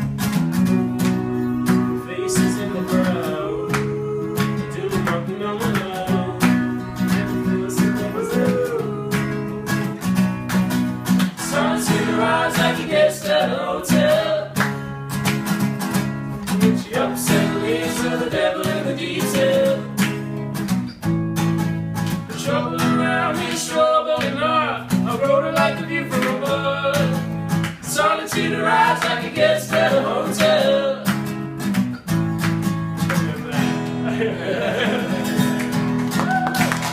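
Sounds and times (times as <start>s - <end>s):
acoustic guitar strumming: 0.0s - 36.9s.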